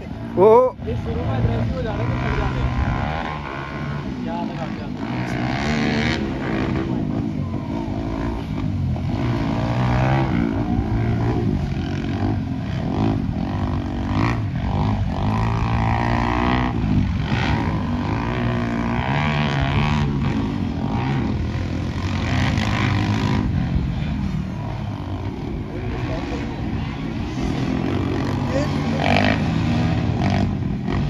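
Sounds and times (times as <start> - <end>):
dirt bike engines racing: 0.0 - 31.0.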